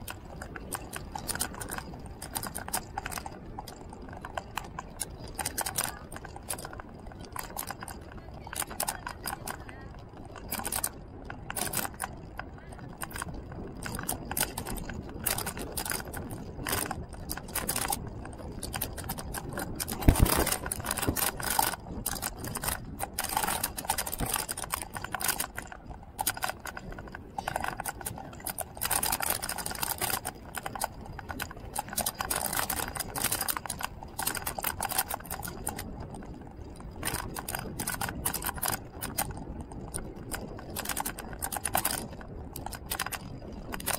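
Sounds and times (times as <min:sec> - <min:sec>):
rattling of moving two-wheeler: 0:00.0 - 0:43.9.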